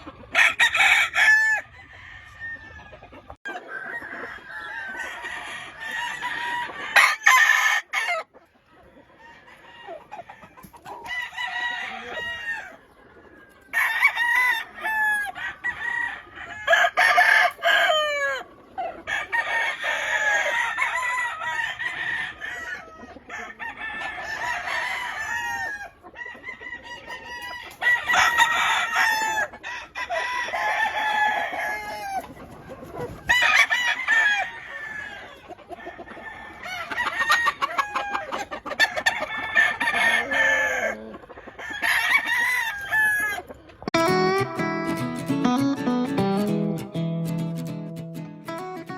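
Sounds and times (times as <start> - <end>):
roosters crowing: 0.0 - 43.9.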